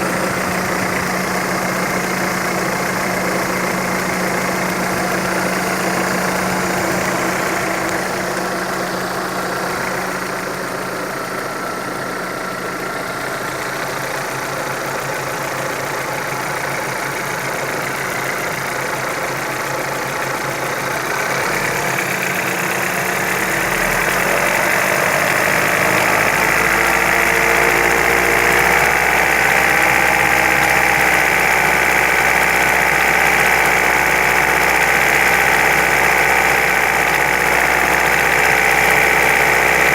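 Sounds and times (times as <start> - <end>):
engine running with knock: 0.0 - 39.9.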